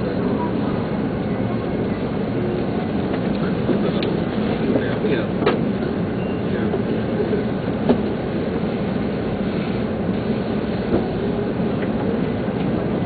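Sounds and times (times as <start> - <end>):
train rumbling hum: 0.0 - 13.0.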